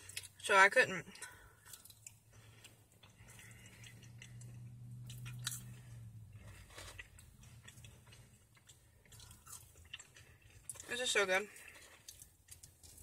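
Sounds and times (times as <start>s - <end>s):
person chewing crunchy food: 0.0s - 0.4s, 1.1s - 13.0s.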